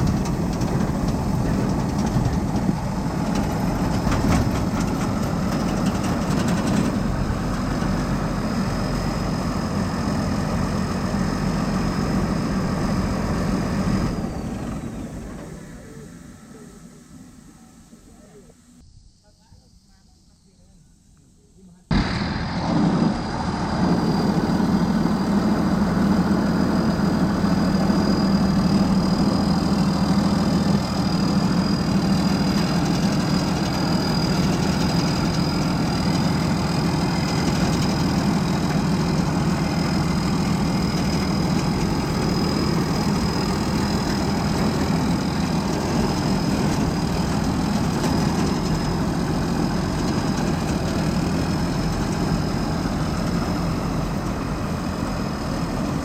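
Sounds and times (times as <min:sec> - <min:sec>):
diesel engine running: 0:00.0 - 0:18.8, 0:21.9 - 0:56.0.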